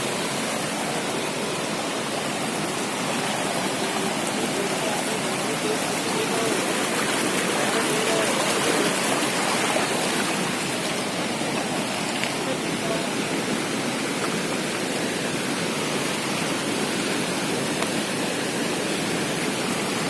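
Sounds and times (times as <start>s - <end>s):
water rushing in heavy rain: 0.0s - 20.0s.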